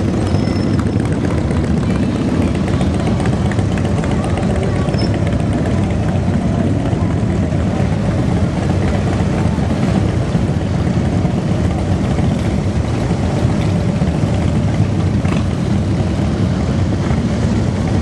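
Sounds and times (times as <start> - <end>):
motorcycle engines rumbling past: 0.0 - 18.0.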